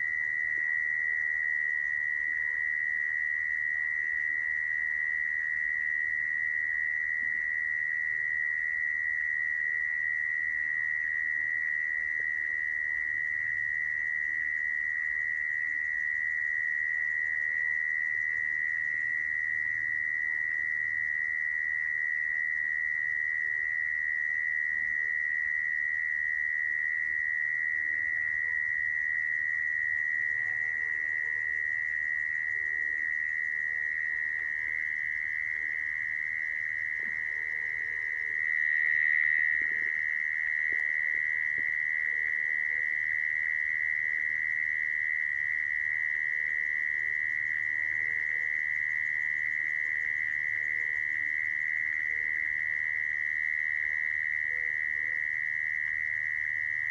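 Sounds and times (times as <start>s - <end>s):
mole cricket trilling: 0.0s - 56.9s.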